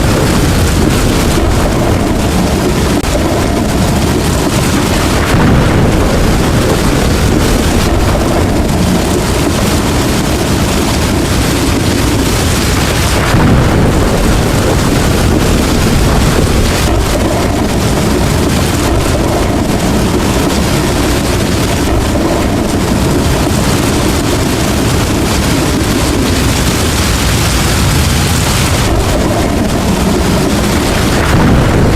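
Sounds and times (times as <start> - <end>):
heavy rain: 0.0 - 31.9
thunder rumbling: 0.0 - 31.9.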